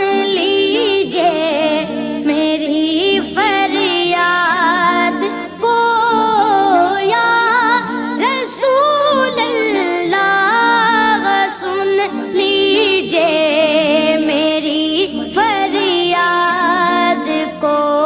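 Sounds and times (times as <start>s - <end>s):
high voice singing devotional song: 0.0s - 18.0s.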